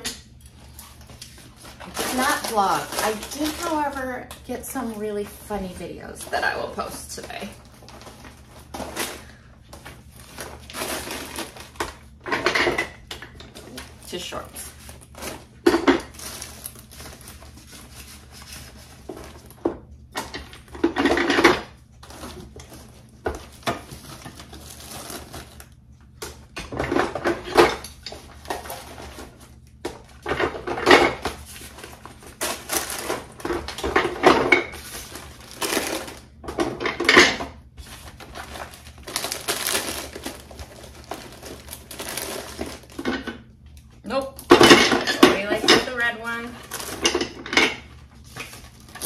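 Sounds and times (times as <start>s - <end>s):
plastic wrap rustling and crinkling: 0.4s - 43.4s, 44.6s - 49.0s.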